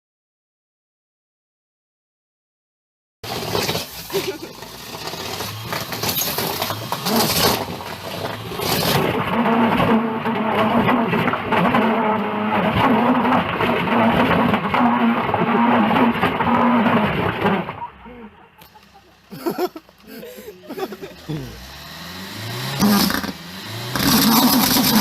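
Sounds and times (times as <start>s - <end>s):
car engine at high revs: 3.2s - 25.0s.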